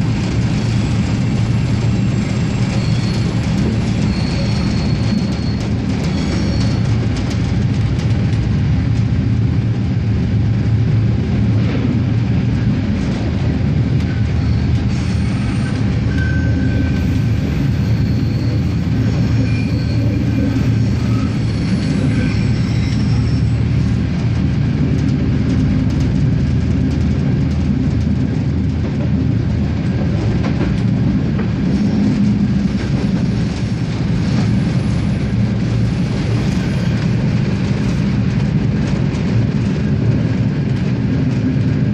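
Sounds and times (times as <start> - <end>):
diesel railcar rumbling: 0.0 - 41.9.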